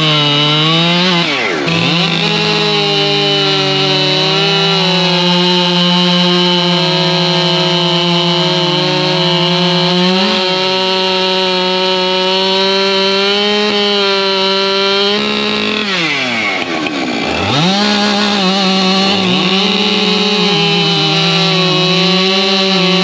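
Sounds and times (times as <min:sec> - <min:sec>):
chainsaws revving: 0:00.0 - 0:23.0.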